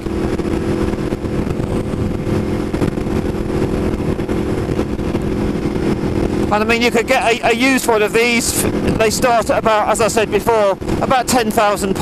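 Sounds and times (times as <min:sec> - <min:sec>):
motorcycle engine droning: 0:00.0 - 0:12.0
wind noise: 0:00.0 - 0:12.0.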